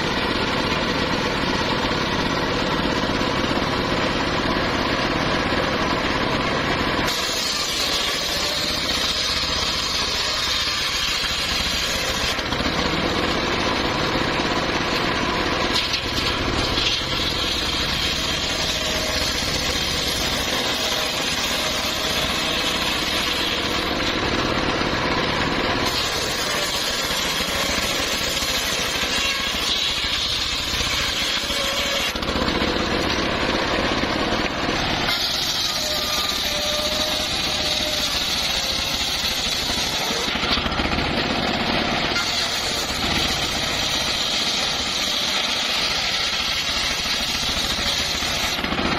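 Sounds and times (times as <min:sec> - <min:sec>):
circular sawmill sawing timber: 0:00.0 - 0:48.9.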